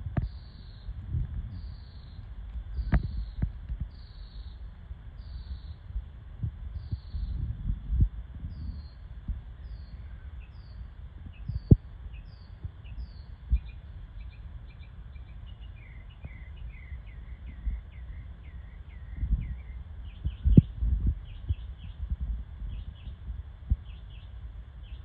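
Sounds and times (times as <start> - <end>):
low microphone rumble: 0.0 - 25.0
bird chirping: 0.2 - 0.9, 1.5 - 4.6, 5.2 - 5.8, 6.8 - 7.4, 8.5 - 22.1, 22.7 - 23.2, 23.8 - 25.0.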